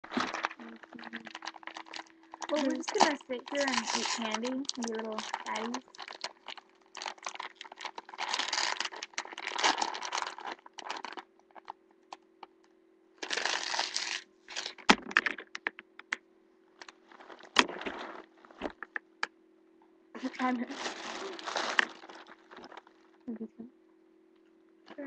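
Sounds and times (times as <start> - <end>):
faint electrical hum: 0.0 - 25.0
candy wrappers crinkling: 0.1 - 12.2, 13.2 - 16.1, 16.8 - 19.0, 20.2 - 23.2.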